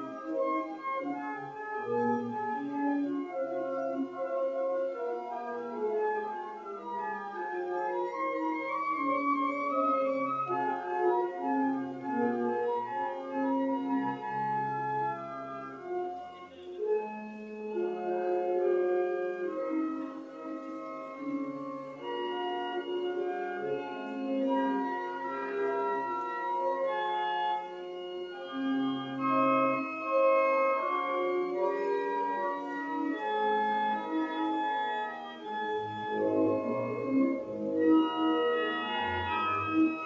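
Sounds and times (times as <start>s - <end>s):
church pipe organ chords: 0.0s - 40.0s.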